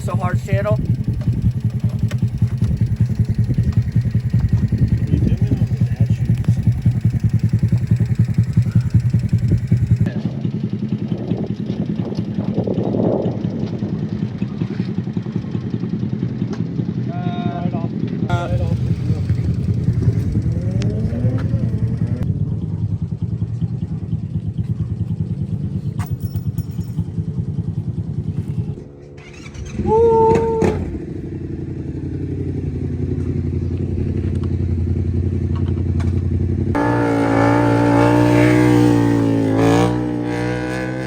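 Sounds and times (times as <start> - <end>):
motorcycle engine revving: 0.0 - 17.1, 18.0 - 41.0.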